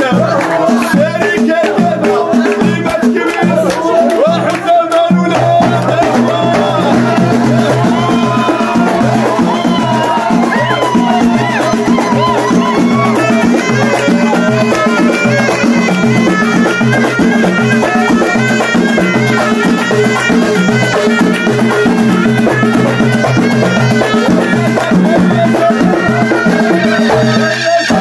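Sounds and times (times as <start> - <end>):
hand drums beating: 0.0 - 28.0
men singing: 0.0 - 28.0.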